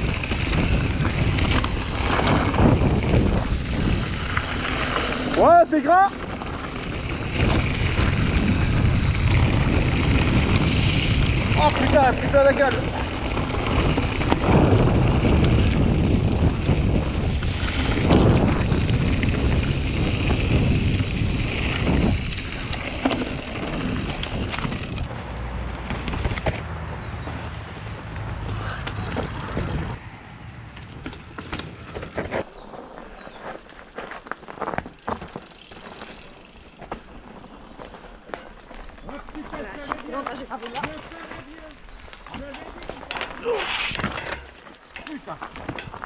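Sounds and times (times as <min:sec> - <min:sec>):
bikes clicking over stones: 0:00.0 - 0:46.0
mountain bike riding on trail: 0:00.0 - 0:46.0.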